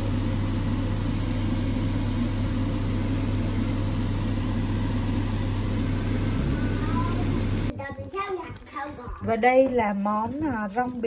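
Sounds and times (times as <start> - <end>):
fan or motor humming: 0.0 - 11.0.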